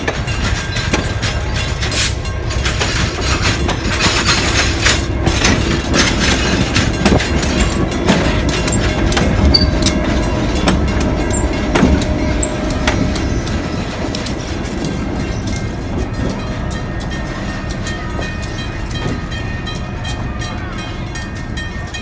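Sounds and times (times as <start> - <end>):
train rumbling on track: 0.0 - 22.0
wheels clicking over rail joints: 0.0 - 22.0.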